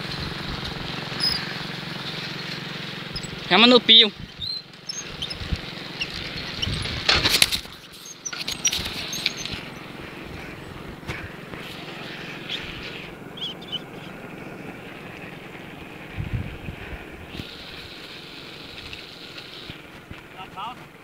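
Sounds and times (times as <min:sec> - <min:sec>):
bicycle rattles and knocks: 0:00.0 - 0:21.0
wind and road noise: 0:00.0 - 0:21.0.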